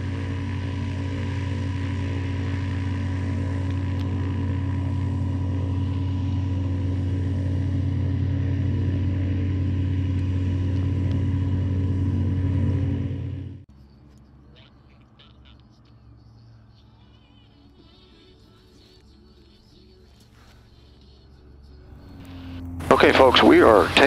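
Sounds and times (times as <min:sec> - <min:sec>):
aircraft engine and propeller drone: 0:00.0 - 0:24.0.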